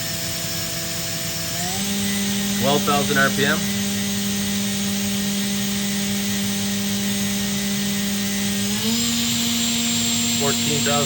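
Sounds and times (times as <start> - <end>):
machine spindle whining: 0.0 - 11.0.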